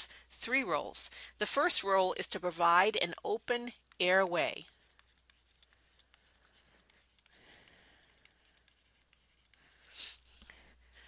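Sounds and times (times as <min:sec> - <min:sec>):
stylus scratching on tablet: 0:01.5 - 0:11.0.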